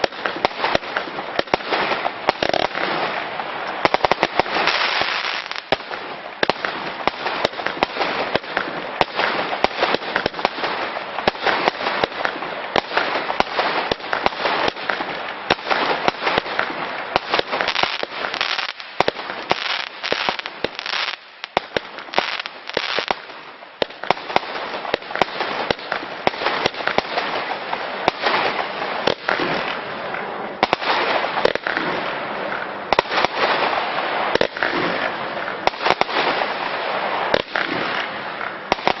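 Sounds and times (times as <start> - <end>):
fireworks barrage: 0.0 - 39.0.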